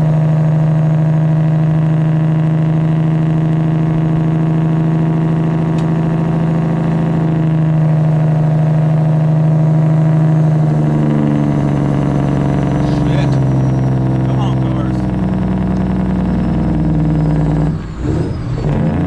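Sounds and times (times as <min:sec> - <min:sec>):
diesel truck engine drone: 0:00.0 - 0:19.0.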